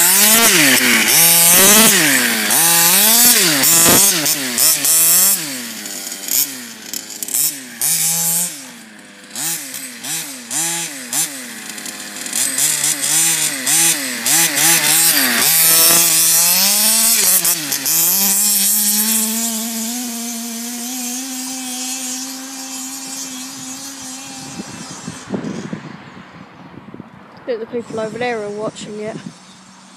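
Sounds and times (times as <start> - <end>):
rc car engine revving: 0.0 - 26.4.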